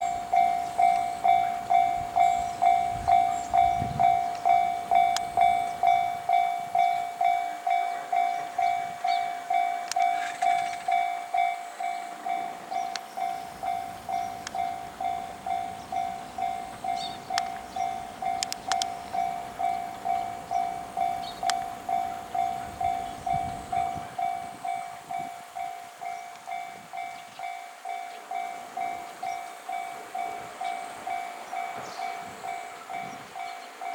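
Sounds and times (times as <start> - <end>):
level-crossing warning bell: 0.0 - 33.9.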